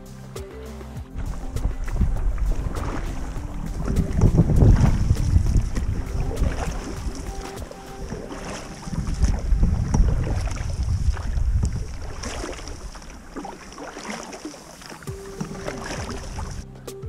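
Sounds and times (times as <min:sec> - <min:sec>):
wind buffeting microphone: 0:01.1 - 0:14.0, 0:15.0 - 0:16.6
water lapping against canoe: 0:01.1 - 0:16.7.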